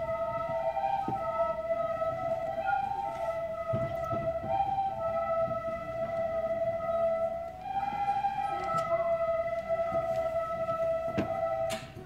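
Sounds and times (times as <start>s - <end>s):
children playing recorders: 0.0s - 12.0s.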